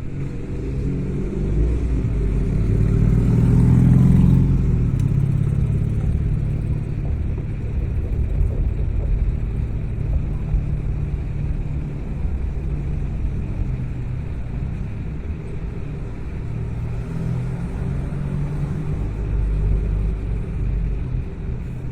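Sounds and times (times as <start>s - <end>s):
car engine and road rumble: 0.0s - 21.9s.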